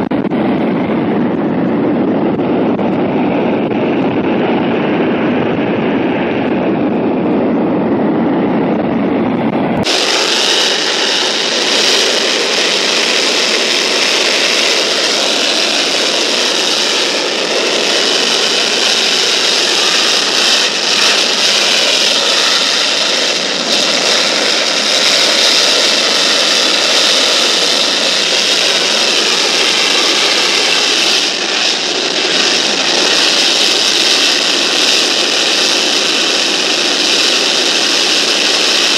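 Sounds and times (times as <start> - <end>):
jet engine roaring with afterburner: 0.0 - 38.9.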